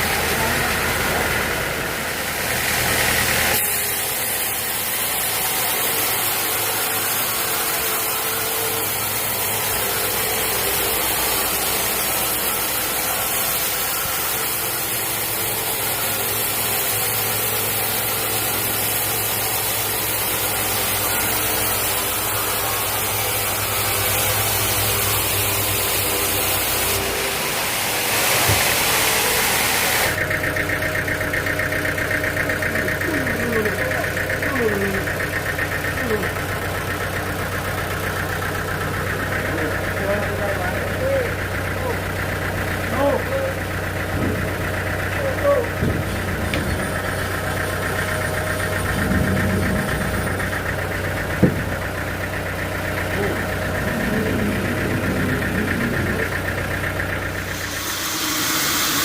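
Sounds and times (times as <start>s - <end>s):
saw machinery hissing: 0.0s - 30.3s, 31.7s - 59.0s
low motor hum: 0.0s - 59.0s.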